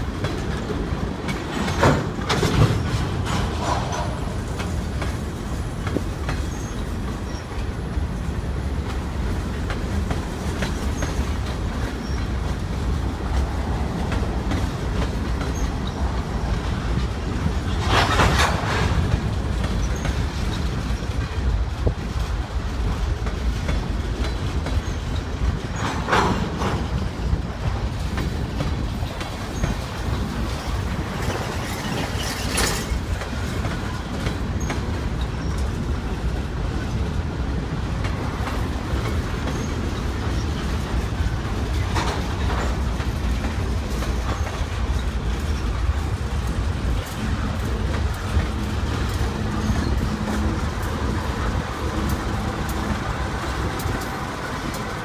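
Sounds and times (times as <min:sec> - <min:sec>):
freight train rolling past: 0:00.0 - 0:55.0
wheels clacking over rail joints: 0:00.0 - 0:55.0.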